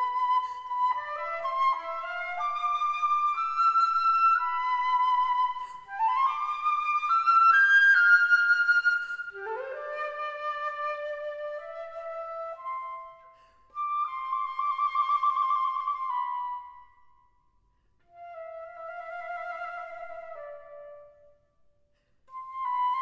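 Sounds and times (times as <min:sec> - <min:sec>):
solo flute playing: 0:00.0 - 0:17.2, 0:18.1 - 0:21.4, 0:22.3 - 0:23.0.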